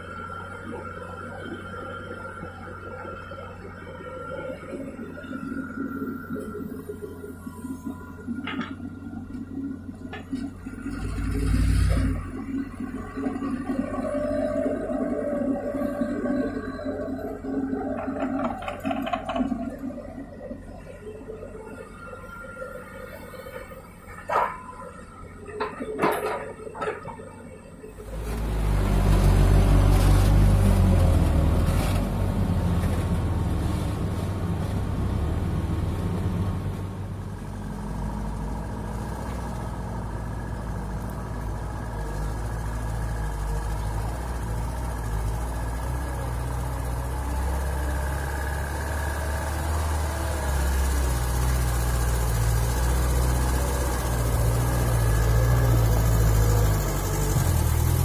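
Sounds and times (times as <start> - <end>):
dump truck engine approaching: 0.0 - 58.0
heavy diesel engines rumbling: 0.0 - 58.0.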